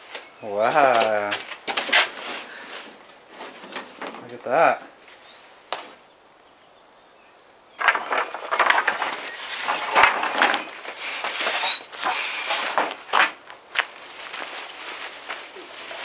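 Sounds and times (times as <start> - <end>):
rustling and scraping handling noises: 0.0 - 6.0, 7.8 - 16.0.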